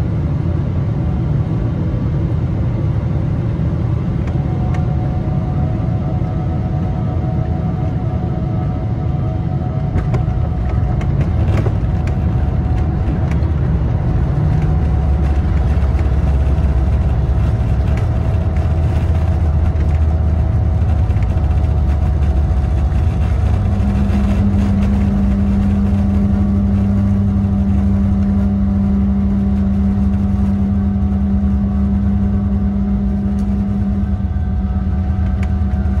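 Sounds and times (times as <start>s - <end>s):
jet engines rumbling: 0.0s - 36.0s
steady hum: 0.0s - 36.0s.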